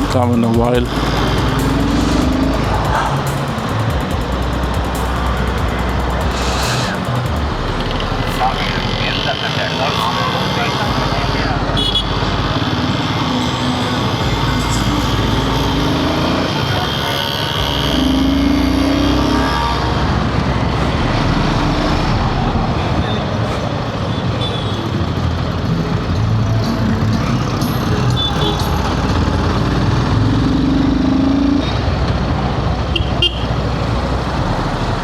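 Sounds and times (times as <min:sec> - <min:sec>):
horn sounding: 0:00.0 - 0:25.1, 0:27.3 - 0:30.7, 0:32.9 - 0:35.0
motorcycle engine: 0:00.0 - 0:35.0.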